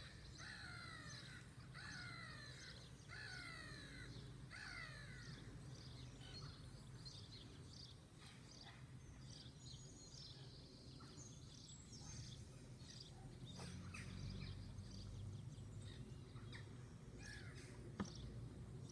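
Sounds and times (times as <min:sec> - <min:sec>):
bird chirps and calls: 0:00.0 - 0:18.9.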